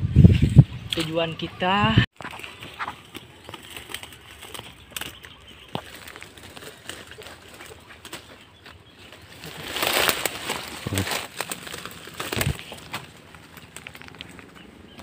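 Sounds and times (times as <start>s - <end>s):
footsteps through undergrowth: 2.1s - 15.0s
leaves brushing: 2.2s - 15.0s
twigs snapping underfoot: 2.2s - 15.0s.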